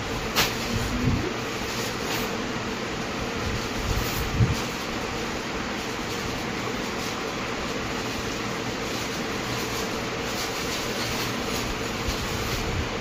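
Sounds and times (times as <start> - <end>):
room fan running: 0.0 - 13.0
plastic bags crinkling: 0.1 - 13.0.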